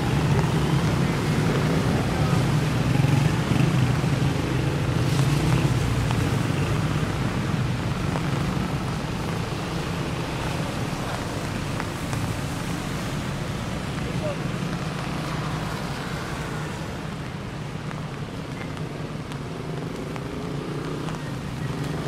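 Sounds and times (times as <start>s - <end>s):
wet road hiss: 0.0s - 22.0s.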